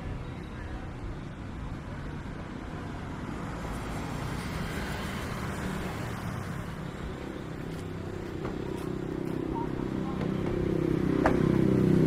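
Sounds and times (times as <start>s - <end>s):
motor vehicles passing: 0.0s - 12.0s.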